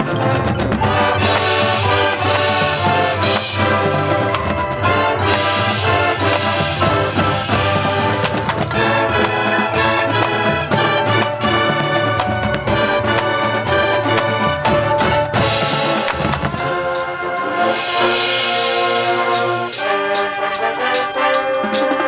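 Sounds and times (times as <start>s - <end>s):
marching band playing: 0.0s - 22.0s.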